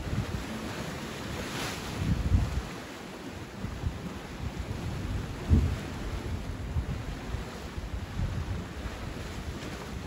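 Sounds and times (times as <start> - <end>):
sea surf: 0.0 - 10.0
wind buffeting microphone: 0.0 - 10.0.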